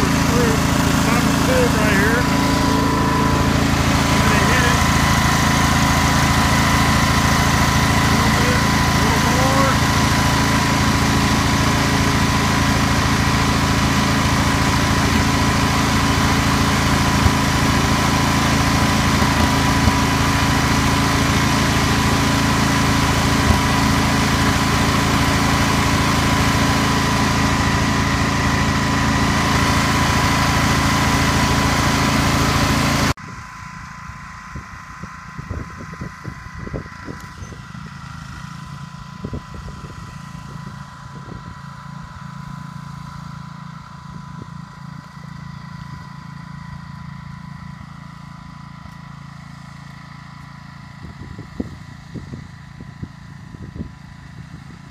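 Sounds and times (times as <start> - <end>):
riding mower engine running: 0.0 - 54.9.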